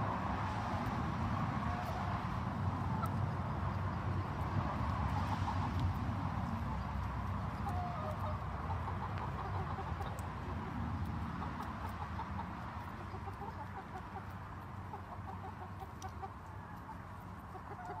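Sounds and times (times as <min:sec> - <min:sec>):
chickens clucking: 0:01.6 - 0:18.0.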